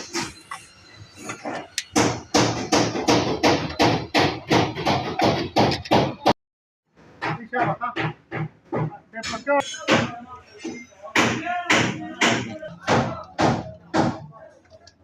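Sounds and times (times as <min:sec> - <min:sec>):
hammer blows: 0:00.0 - 0:06.4, 0:07.2 - 0:14.3.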